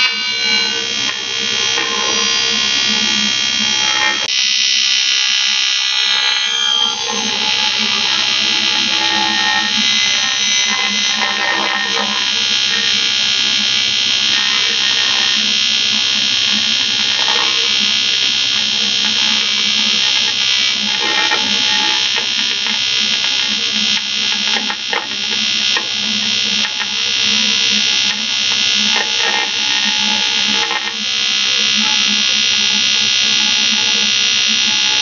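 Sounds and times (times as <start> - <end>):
welding arc buzzing: 0.0 - 35.0
welding arc crackles: 0.0 - 35.0.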